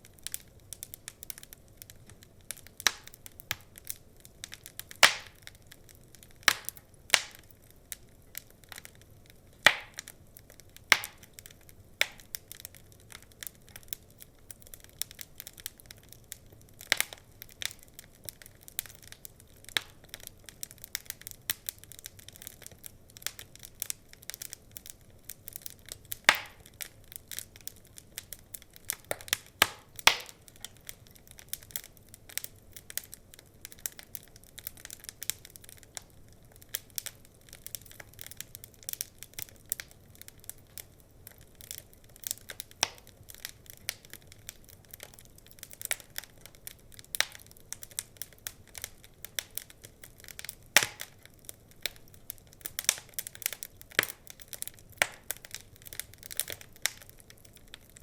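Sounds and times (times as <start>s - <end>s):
soft steady hiss: 0.0s - 58.0s
wood fire crackling: 0.0s - 58.0s.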